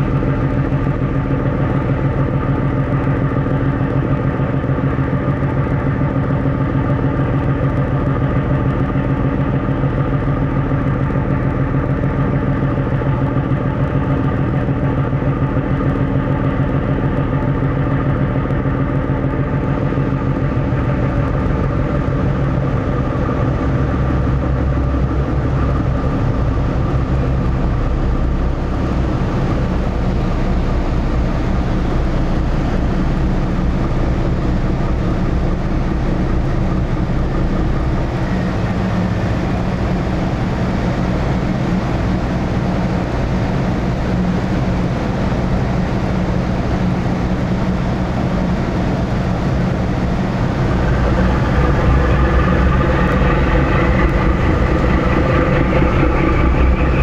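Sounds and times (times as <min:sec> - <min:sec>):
ship engines droning: 0:00.0 - 0:57.0.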